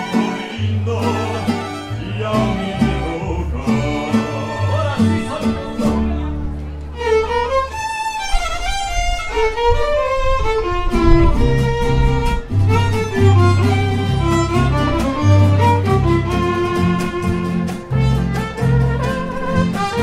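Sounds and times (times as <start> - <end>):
bass guitar: 0.0 - 20.0
strummed guitars: 0.0 - 20.0
violins playing melody: 0.0 - 20.0.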